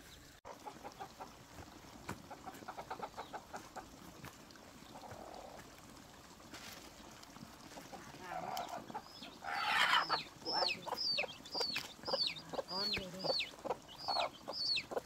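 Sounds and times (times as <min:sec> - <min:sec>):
chickens clucking: 0:00.5 - 0:15.0.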